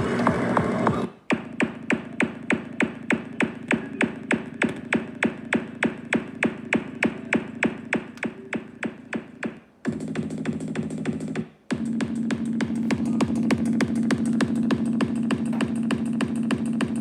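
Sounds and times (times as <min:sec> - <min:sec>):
electronic dance music beat: 0:00.0 - 0:17.0.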